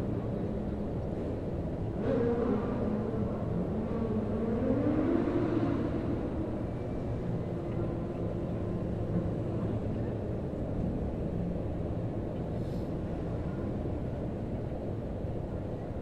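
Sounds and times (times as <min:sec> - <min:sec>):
city background rumble: 0:00.0 - 0:16.0.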